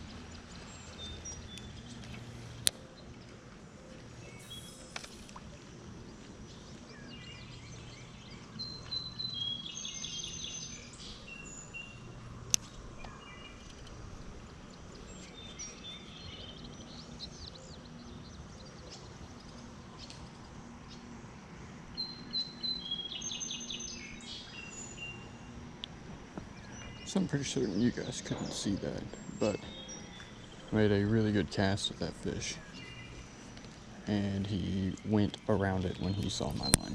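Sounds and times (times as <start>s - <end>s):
outdoor background noise: 0.0s - 36.9s
songbird singing: 0.0s - 36.9s.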